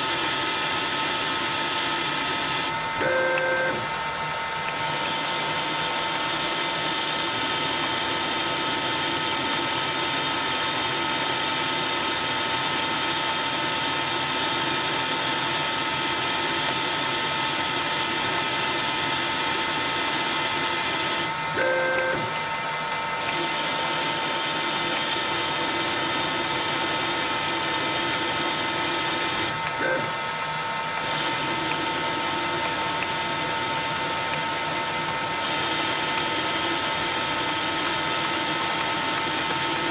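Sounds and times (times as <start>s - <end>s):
lathe running with whine and hiss: 0.0s - 39.9s.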